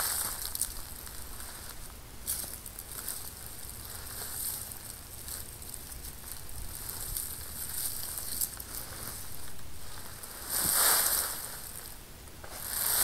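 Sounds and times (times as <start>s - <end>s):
soil rustling and crackling: 0.0s - 13.0s.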